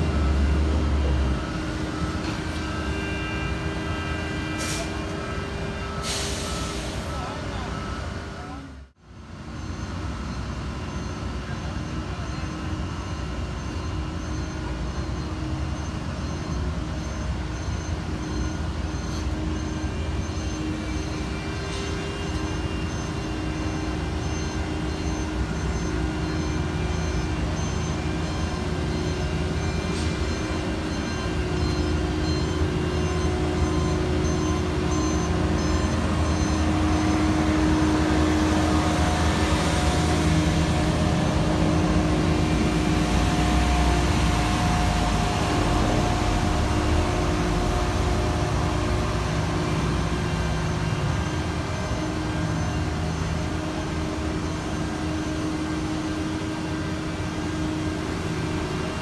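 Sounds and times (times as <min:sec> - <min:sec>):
faint backup alarm beeping: 0:00.0 - 0:59.0
heavy diesel engines running: 0:00.0 - 0:59.0.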